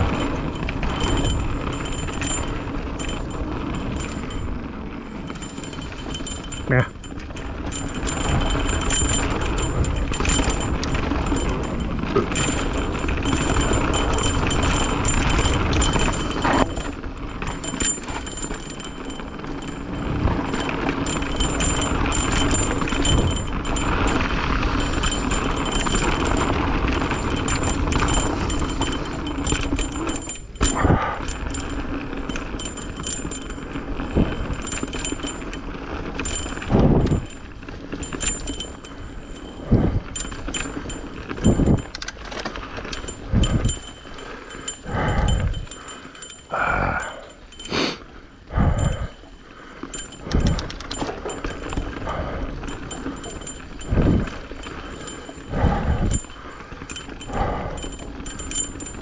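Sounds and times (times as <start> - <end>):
bike rattling and knocking: 0.0 - 59.0
bike tyres rolling on dirt: 0.0 - 59.0.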